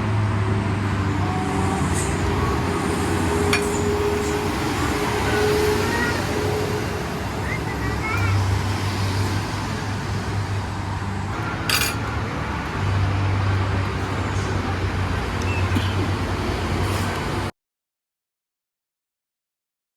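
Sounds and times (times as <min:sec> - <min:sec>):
road traffic engine hum: 0:00.0 - 0:17.5.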